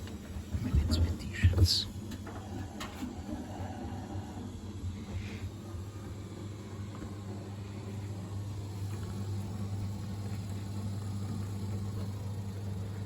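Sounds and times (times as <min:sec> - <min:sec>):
washing machines spinning: 0:00.0 - 0:13.0.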